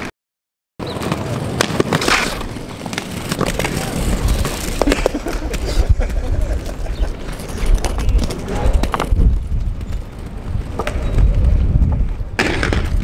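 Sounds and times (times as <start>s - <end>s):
skate frames clacking: 0.8s - 13.0s
skate grinding scrape: 0.8s - 13.0s
skate wheels rolling on concrete: 0.8s - 13.0s.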